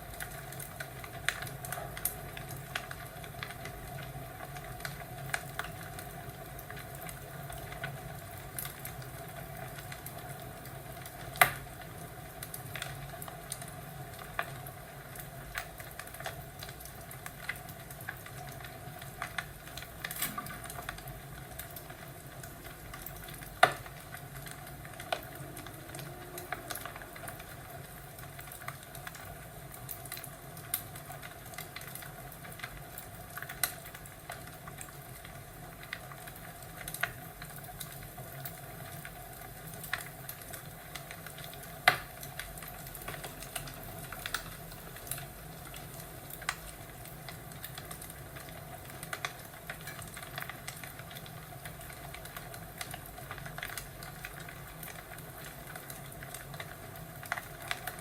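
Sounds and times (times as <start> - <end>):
fire popping and snapping: 0.0 - 58.0
fireplace hissing: 0.0 - 58.0.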